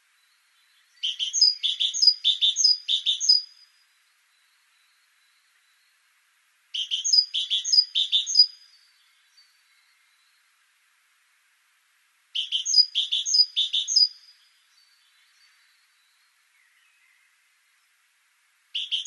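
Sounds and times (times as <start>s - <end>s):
bird singing: 0.1s - 6.1s, 6.7s - 10.6s, 12.4s - 18.0s, 18.7s - 19.0s.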